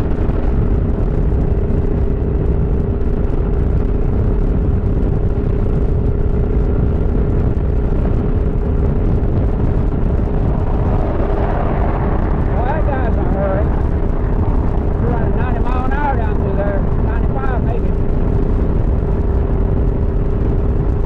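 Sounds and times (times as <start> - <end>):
heavy wind rush: 0.0 - 21.0
motorcycle engine drone: 0.0 - 21.0.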